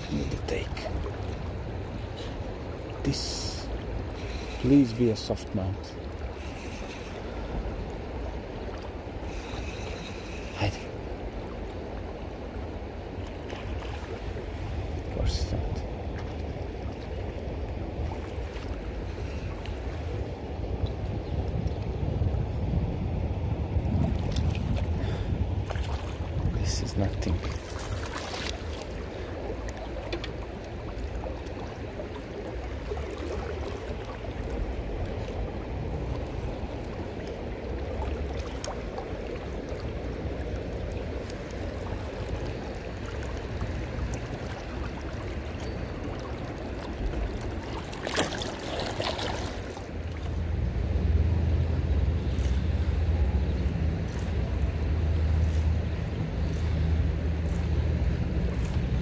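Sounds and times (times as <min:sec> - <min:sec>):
wind rumbling on microphone: 0:00.0 - 0:59.0.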